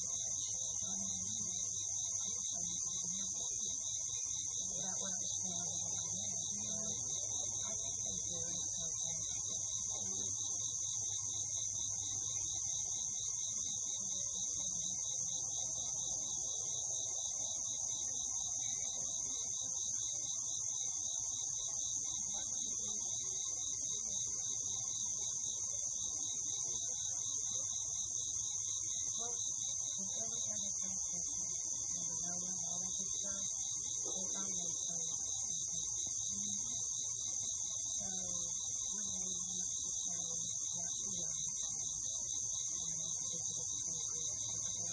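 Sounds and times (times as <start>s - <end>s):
crickets and insects buzzing: 0.0s - 44.9s.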